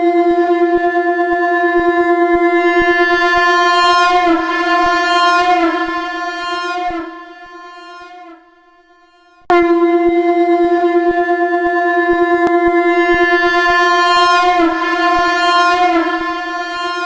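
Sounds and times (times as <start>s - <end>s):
conch shell long note: 1.4s - 17.0s.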